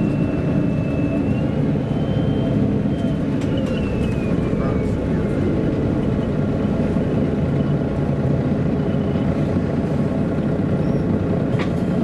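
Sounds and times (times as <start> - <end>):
bus engine drone from inside: 0.0 - 12.0.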